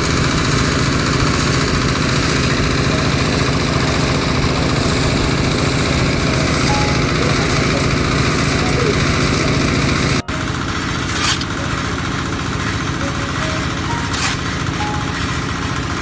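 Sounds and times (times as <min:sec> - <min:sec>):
drilling rig engine running: 0:00.0 - 0:16.0.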